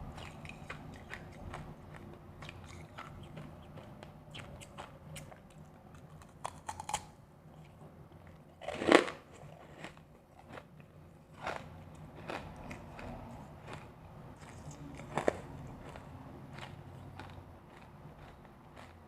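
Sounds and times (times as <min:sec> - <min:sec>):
person chewing crunchy ice: 0:00.0 - 0:07.7, 0:08.6 - 0:19.0.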